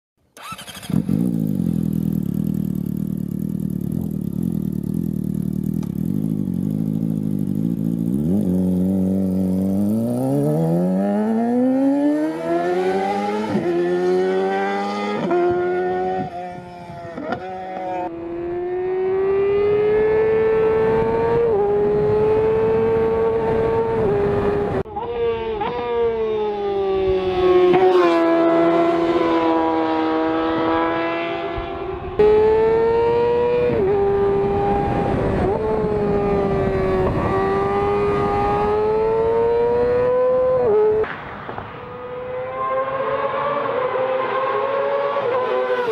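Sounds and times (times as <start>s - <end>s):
motorcycle engine revving: 0.4s - 45.9s.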